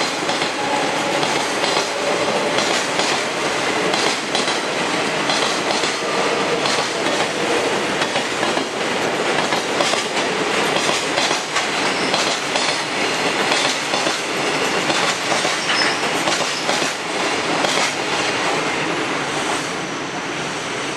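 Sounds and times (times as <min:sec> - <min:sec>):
train wheels clattering over rail joints: 0:00.0 - 0:03.3, 0:03.9 - 0:06.0, 0:06.6 - 0:18.2.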